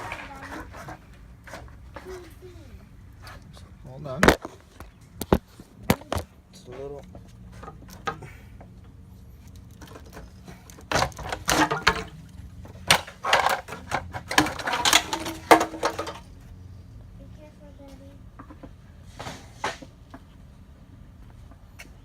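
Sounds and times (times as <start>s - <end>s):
knocks clunks and scraping: 0.0s - 16.8s, 17.7s - 22.0s.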